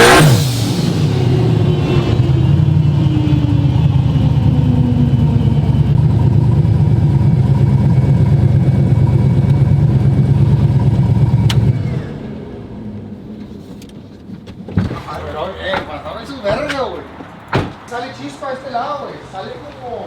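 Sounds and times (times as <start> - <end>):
truck engine at full throttle: 0.0 - 20.0.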